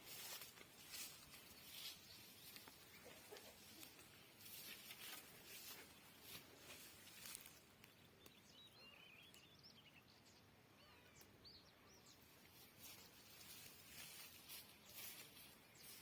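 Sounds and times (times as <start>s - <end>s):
faint small bird chirps: 0.9s - 16.0s.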